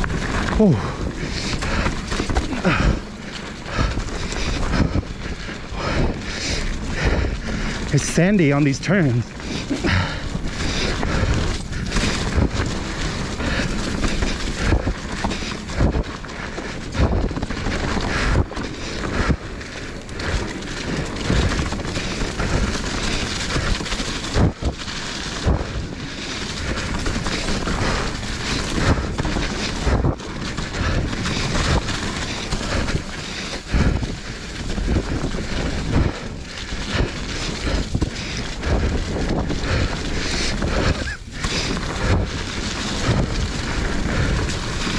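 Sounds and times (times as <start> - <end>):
bike knocking and rattling on rocks: 0.0 - 44.9
bike tyre noise: 0.0 - 44.9
wind rush on microphone: 0.0 - 44.9.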